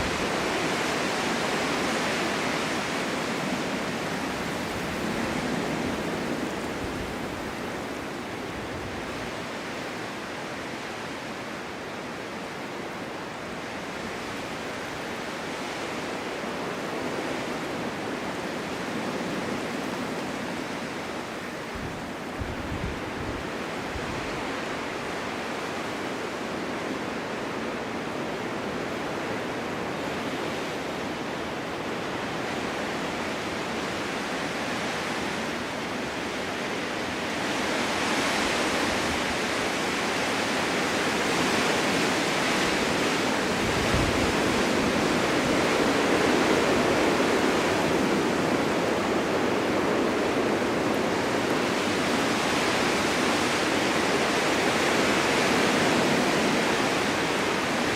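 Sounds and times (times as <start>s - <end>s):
wind blowing snow: 0.0s - 57.9s.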